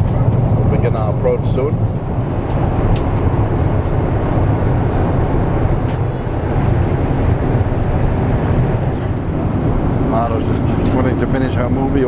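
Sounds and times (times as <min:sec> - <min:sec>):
airliner cabin engine and airflow noise: 0:00.0 - 0:12.0.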